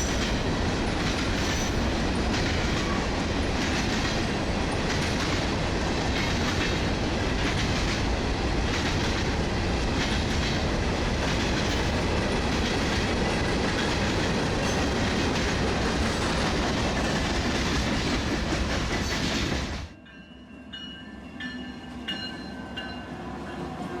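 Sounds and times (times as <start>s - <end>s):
train wheels on rails: 0.0s - 20.1s.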